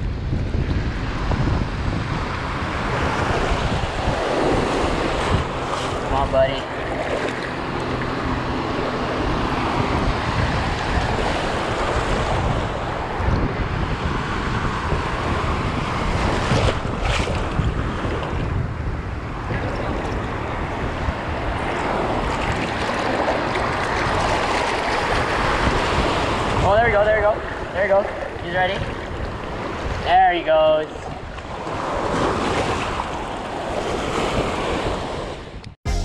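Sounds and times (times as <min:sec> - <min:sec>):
wind noise on microphone: 0:00.0 - 0:36.0
shallow surf sloshing: 0:00.1 - 0:35.6.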